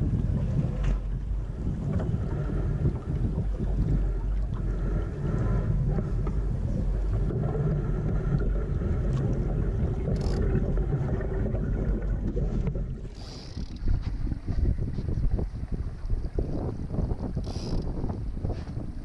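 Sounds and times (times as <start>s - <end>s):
water noise from hull: 0.0s - 19.0s
wind rumbling on microphone: 0.0s - 19.0s.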